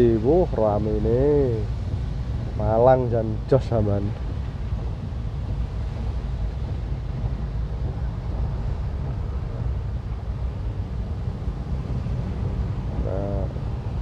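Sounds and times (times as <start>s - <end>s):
traffic on wet roads: 0.0s - 14.0s.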